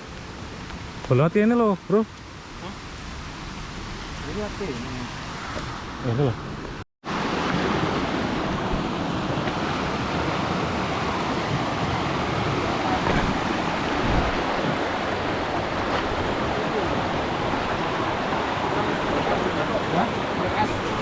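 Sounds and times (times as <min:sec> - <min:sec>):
steady rushing noise: 0:02.9 - 0:21.0.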